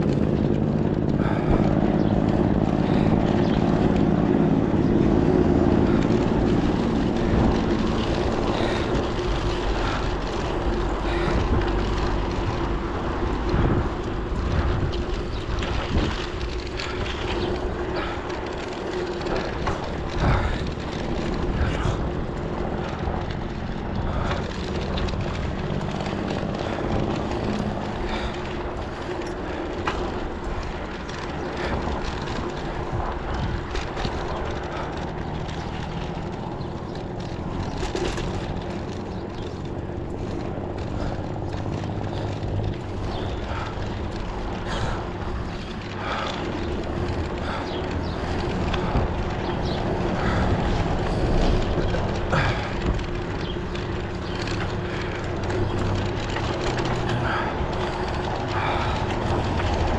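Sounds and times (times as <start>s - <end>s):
low rumble: 0.0s - 59.9s
road noise: 0.0s - 59.9s.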